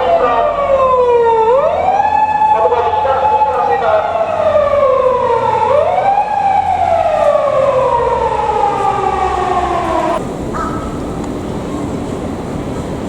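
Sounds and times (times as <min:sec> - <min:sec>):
police car siren wailing: 0:00.0 - 0:11.9
low vehicle rumble: 0:00.0 - 0:13.0.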